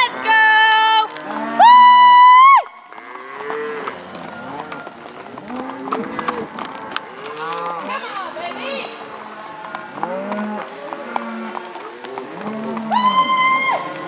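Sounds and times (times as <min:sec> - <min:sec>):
cattle mooing: 0:01.1 - 0:01.8, 0:02.9 - 0:14.0.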